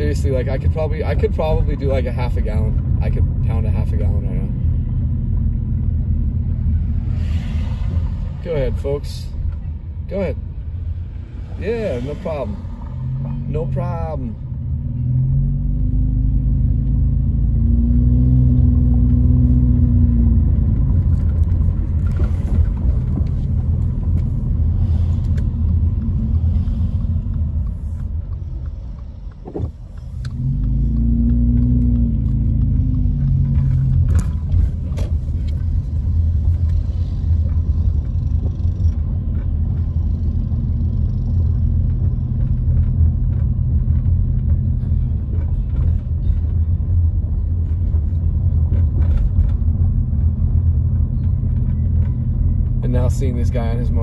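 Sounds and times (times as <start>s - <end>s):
car engine: 0.0s - 54.0s
road rumble: 0.0s - 54.0s.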